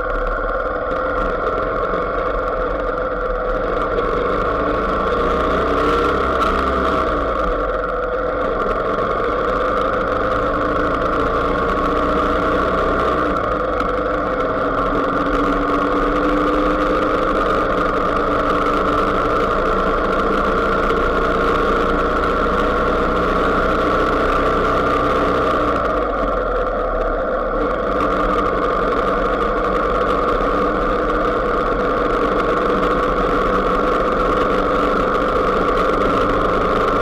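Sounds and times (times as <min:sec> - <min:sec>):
car engine cruising: 0:00.0 - 0:37.0
road noise: 0:00.0 - 0:37.0.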